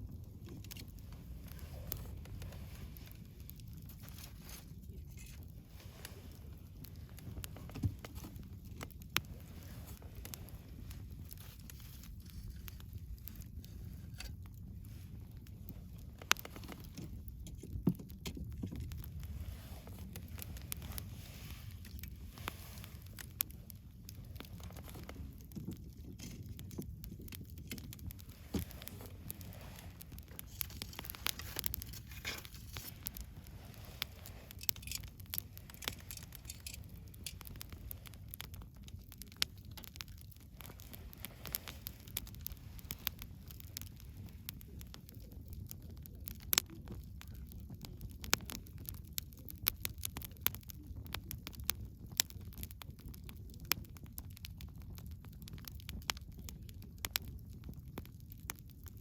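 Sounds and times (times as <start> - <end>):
campfire crackling and popping: 0.0 - 59.0
fire low rumble: 0.0 - 59.0.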